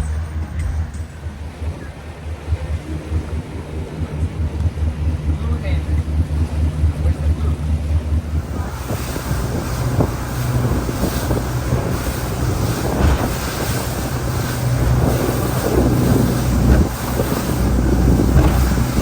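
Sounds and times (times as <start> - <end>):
boat engine hum: 0.0 - 19.0
water rushing past hull: 0.0 - 19.0
wind buffeting microphone: 0.0 - 19.0.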